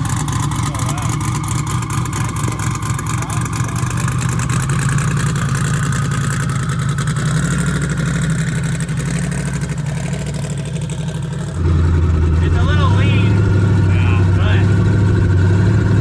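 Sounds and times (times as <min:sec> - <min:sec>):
car engine lumpy idle: 0:00.0 - 0:16.0.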